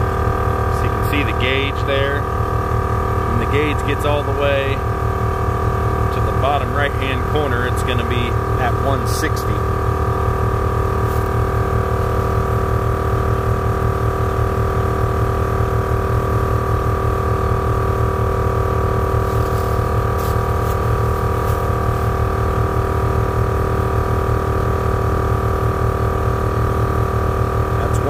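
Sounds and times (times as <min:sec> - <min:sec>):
air compressor running: 0:00.0 - 0:28.0.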